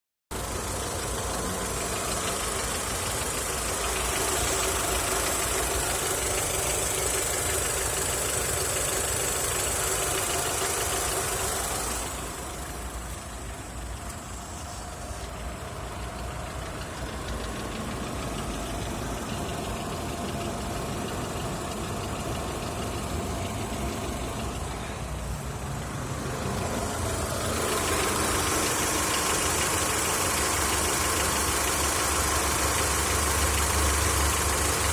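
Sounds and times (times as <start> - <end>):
car engine idling with knock: 0.3 - 34.9.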